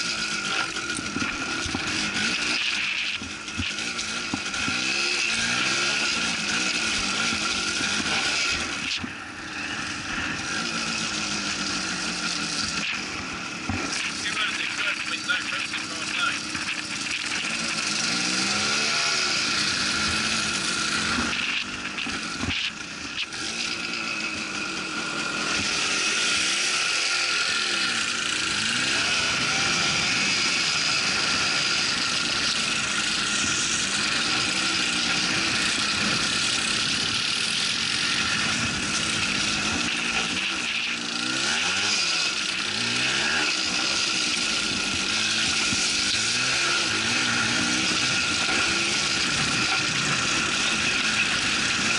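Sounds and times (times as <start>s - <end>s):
quad bike engine revving: 0.0s - 51.9s
tyres on rough gravel: 0.0s - 51.9s.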